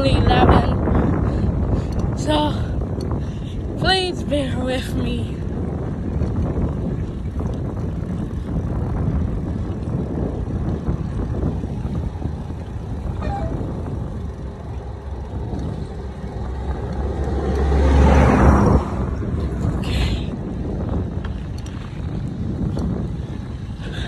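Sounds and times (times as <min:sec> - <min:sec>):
bicycle road noise: 0:00.0 - 0:24.0
wind rumbling on microphone: 0:00.0 - 0:24.0.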